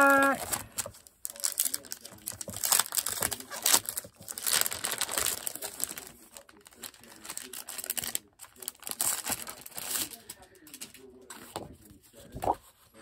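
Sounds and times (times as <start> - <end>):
packaging crinkling: 0.1 - 11.0.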